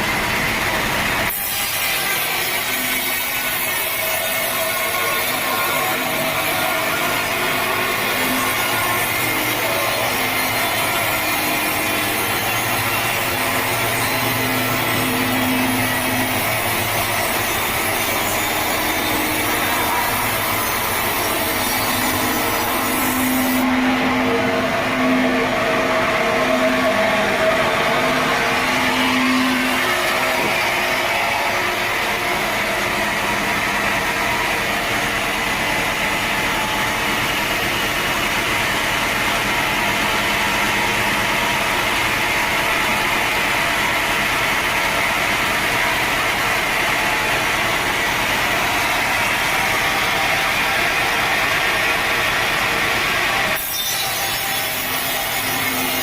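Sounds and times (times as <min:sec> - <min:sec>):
saw cutting through log: 0:00.4 - 0:42.5, 0:44.2 - 0:56.0.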